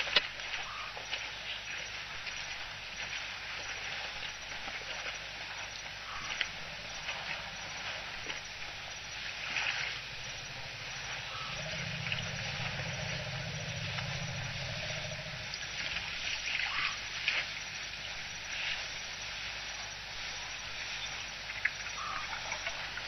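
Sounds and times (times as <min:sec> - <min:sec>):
low steady hum: 0:00.0 - 0:23.0
water splashing and trickling: 0:00.0 - 0:23.0.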